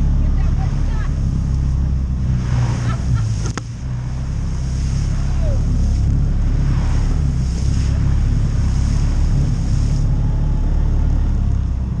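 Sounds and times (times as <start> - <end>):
off-road vehicle engine running: 0.0 - 12.0
water splashing under tires: 0.0 - 12.0.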